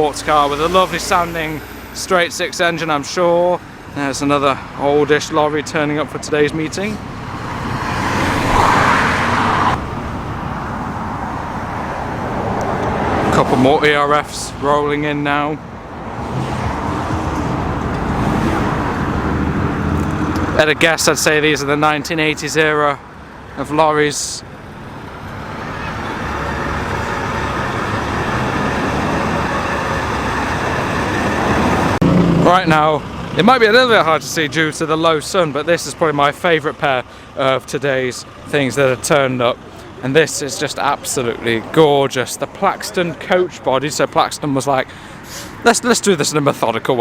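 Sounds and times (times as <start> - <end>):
lorry engine and tyre noise: 0.0 - 47.0
vehicle rumble: 0.0 - 47.0.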